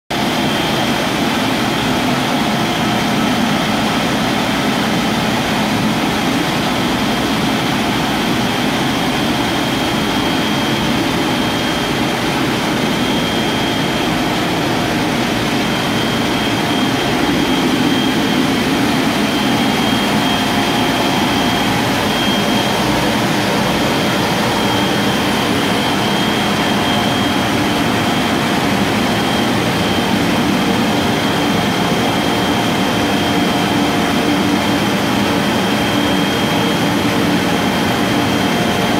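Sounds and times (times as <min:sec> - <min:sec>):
pump motor humming: 0:00.2 - 0:38.9
thin high whine: 0:00.2 - 0:38.9.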